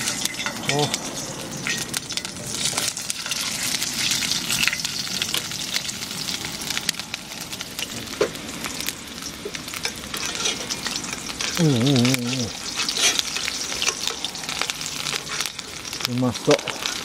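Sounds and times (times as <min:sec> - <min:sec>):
carrots sizzling in oil: 0:00.0 - 0:17.0.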